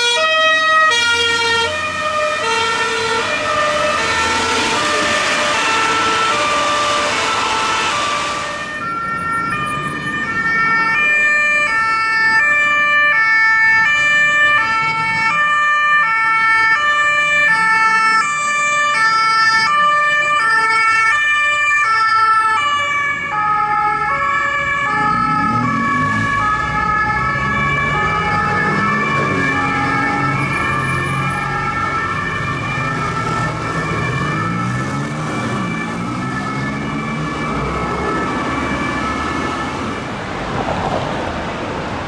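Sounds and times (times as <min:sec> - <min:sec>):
car engines and traffic: 0:00.0 - 0:42.0
two-tone police sirens: 0:00.0 - 0:42.0.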